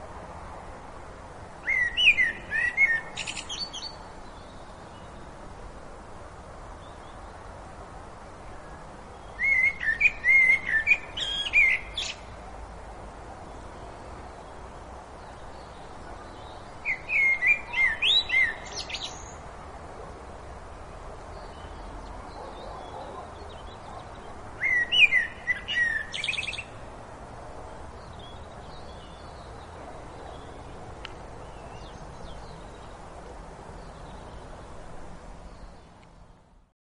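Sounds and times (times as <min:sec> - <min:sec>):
songbird singing: 0:01.3 - 0:36.7
distant birdsong: 0:01.6 - 0:05.5, 0:08.3 - 0:12.5, 0:13.1 - 0:36.7.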